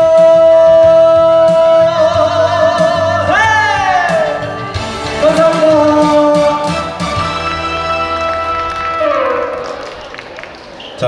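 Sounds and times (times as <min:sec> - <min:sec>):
karaoke backing music: 0:00.0 - 0:10.0.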